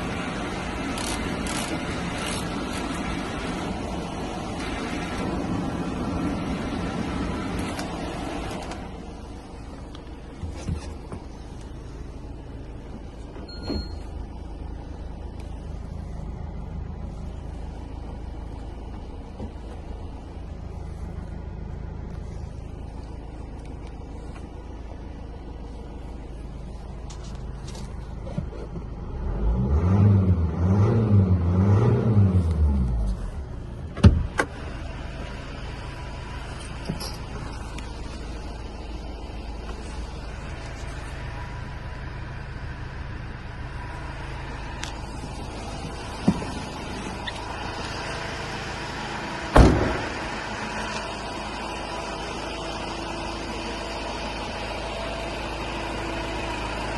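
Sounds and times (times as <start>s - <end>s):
diesel van engine rumbling: 0.0s - 56.9s.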